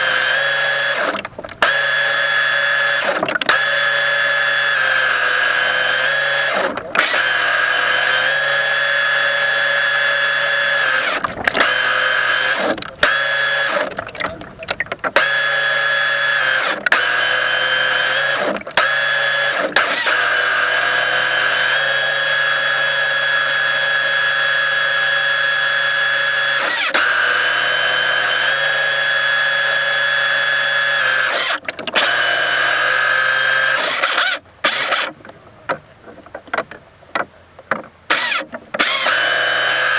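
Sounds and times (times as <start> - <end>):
rc boat motor whine: 0.0 - 14.0, 15.1 - 35.2, 38.1 - 39.9.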